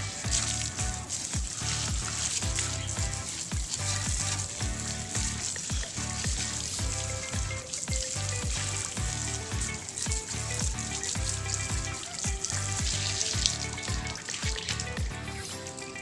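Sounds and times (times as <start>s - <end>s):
background music with beat and bass: 0.0s - 16.0s
water spraying: 0.0s - 16.0s.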